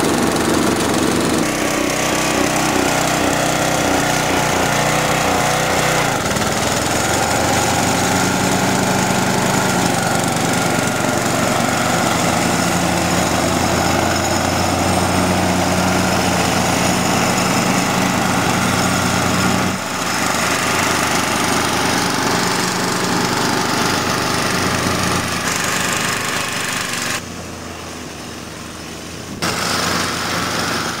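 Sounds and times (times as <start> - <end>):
lawn mower engine running: 0.0 - 31.0.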